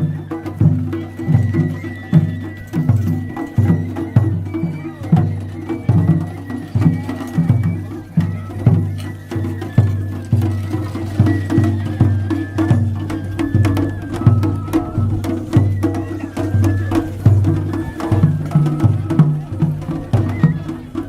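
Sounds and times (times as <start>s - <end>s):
high flute melody: 0.0s - 21.0s
taiko drums beating: 0.0s - 21.0s.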